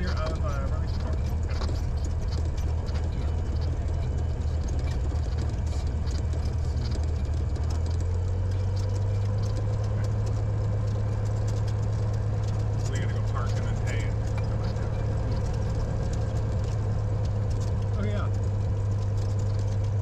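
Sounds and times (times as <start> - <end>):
propeller aircraft engine humming: 0.0 - 20.0.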